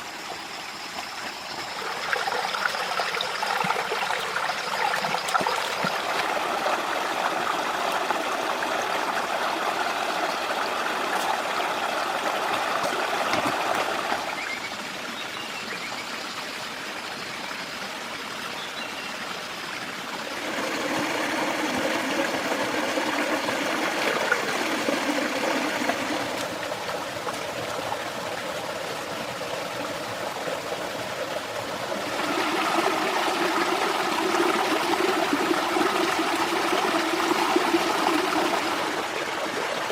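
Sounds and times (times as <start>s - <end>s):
stream water rushing: 0.0s - 16.9s, 17.9s - 39.9s.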